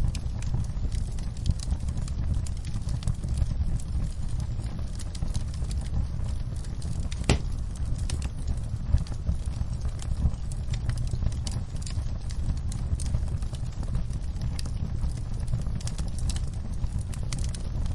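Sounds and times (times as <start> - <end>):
fire pops and snaps: 0.0 - 17.9
low fire rumble: 0.0 - 17.9
wood fire crackling: 0.0 - 17.9.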